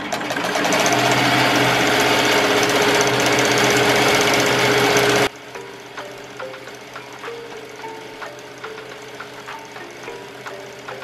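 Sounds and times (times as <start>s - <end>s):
embroidery machine stitching: 0.0s - 5.3s, 6.6s - 11.0s.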